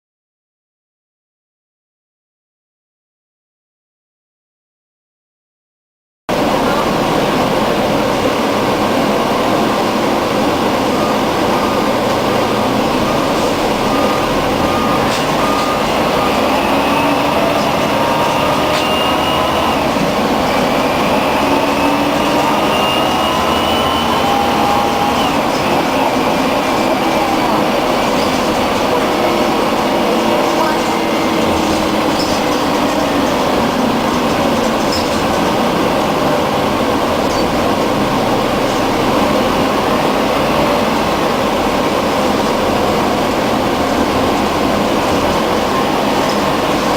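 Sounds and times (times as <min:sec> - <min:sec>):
bus diesel engine drone: 0:06.3 - 0:46.9
drivetrain whine rising: 0:06.3 - 0:46.9.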